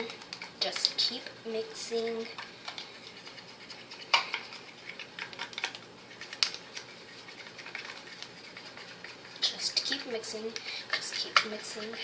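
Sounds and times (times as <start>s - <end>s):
utensil stirring in bowl: 0.0s - 12.0s.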